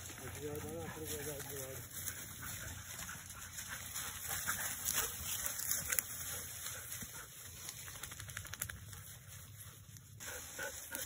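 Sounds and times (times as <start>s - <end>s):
leaves rustling: 0.0s - 11.0s
twigs crackling: 0.0s - 11.0s.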